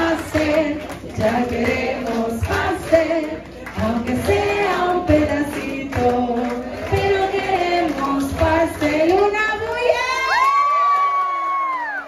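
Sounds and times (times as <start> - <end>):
woman singing into microphone: 0.0 - 10.4.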